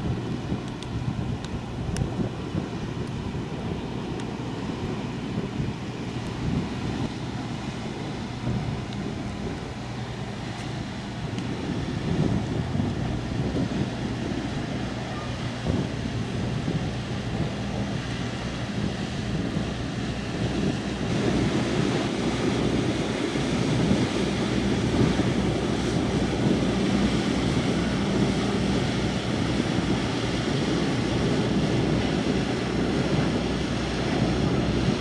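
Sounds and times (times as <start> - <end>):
ship engines droning: 0.0 - 35.0
wake rushing: 0.0 - 35.0
wind buffeting microphone: 0.0 - 35.0.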